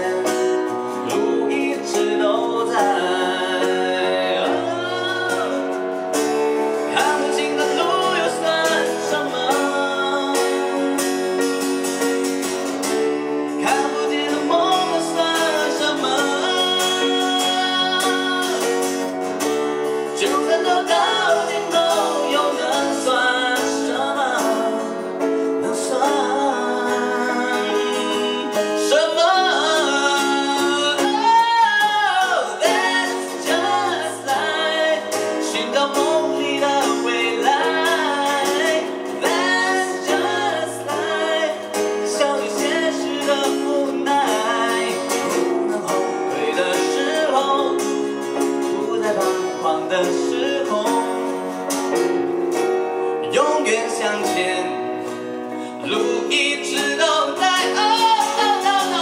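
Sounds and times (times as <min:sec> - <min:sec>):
man and woman singing: 0:00.0 - 0:51.7, 0:53.1 - 0:59.0
instrumental accompaniment: 0:00.0 - 0:59.0.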